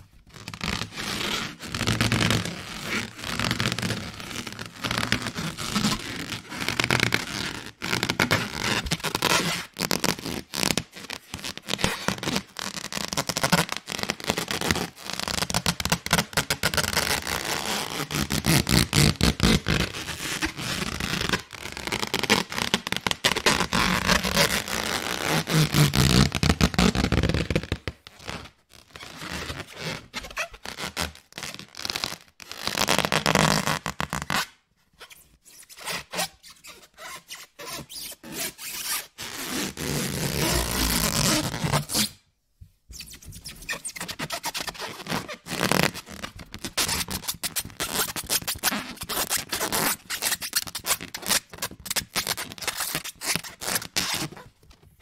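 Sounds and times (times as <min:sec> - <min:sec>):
rubber balloon squeaking: 0:00.0 - 0:42.3, 0:42.9 - 0:55.0.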